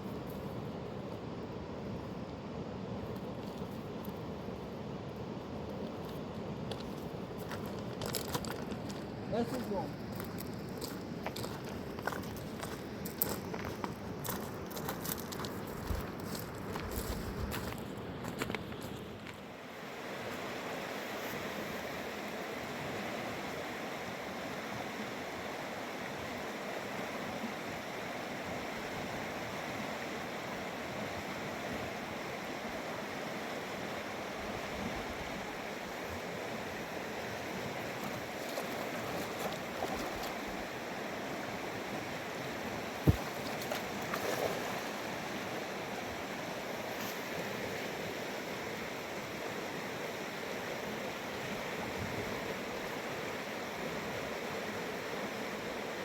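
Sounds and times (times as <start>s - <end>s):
mountain river rushing: 6.0s - 56.0s.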